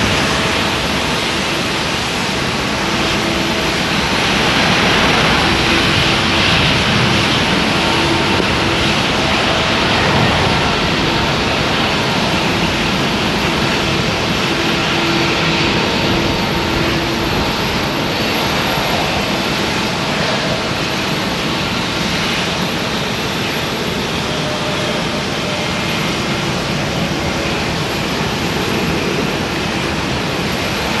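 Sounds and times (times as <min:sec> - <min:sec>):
jet engines at takeoff thrust: 0:00.0 - 0:31.0.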